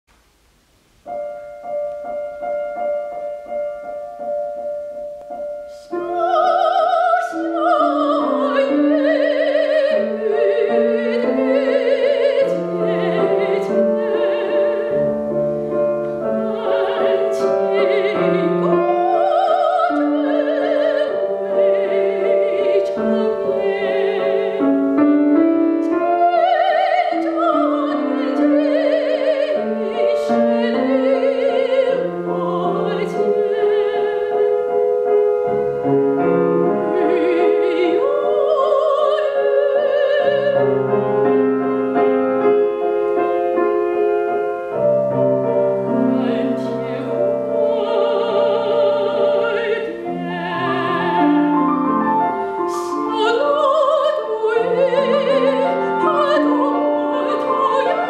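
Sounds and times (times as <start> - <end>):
grand piano: 0.0 - 58.0
soprano singing classical song: 0.0 - 58.0.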